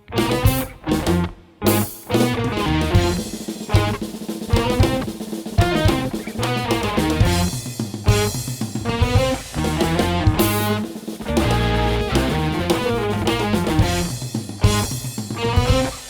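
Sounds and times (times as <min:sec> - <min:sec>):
drum kit beating: 0:00.0 - 0:16.0
rock fusion band playing: 0:00.0 - 0:16.0.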